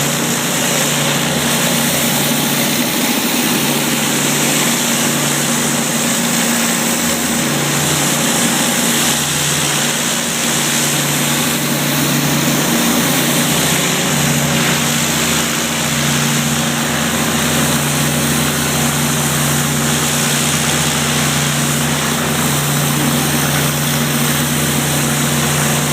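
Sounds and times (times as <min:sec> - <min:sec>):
high-pressure spray hiss: 0:00.0 - 0:25.9
pressure washer engine hum: 0:00.0 - 0:25.9.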